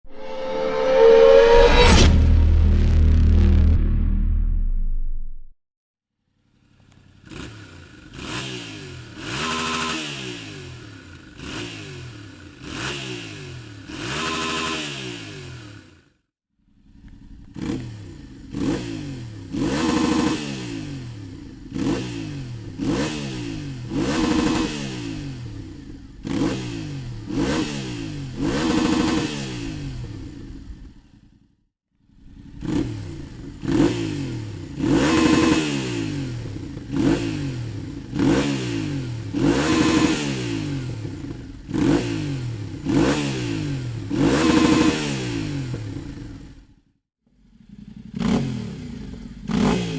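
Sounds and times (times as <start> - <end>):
motorcycle engine revving: 6.7 - 16.1, 16.7 - 31.3, 32.0 - 46.7, 47.4 - 49.9.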